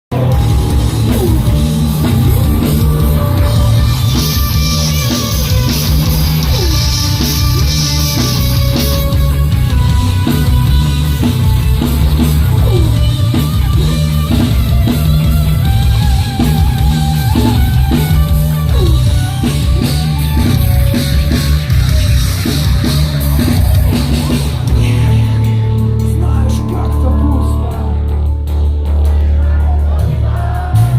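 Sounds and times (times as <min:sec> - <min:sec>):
rock band playing: 0:00.0 - 0:30.9
drum kit beat: 0:00.1 - 0:30.9.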